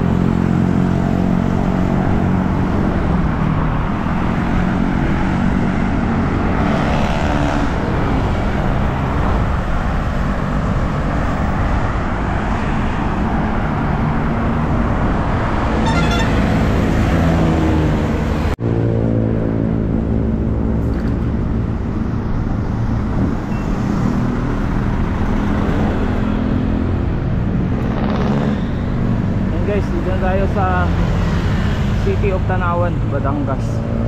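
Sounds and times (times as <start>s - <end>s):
motor vehicles passing: 0.0s - 34.0s
road noise rushing: 0.0s - 34.0s.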